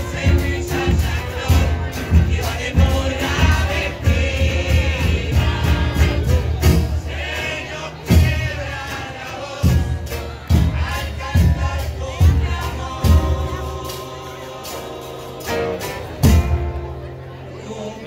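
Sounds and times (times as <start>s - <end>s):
drums beating: 0.0s - 17.1s
chorus singing: 0.0s - 18.0s.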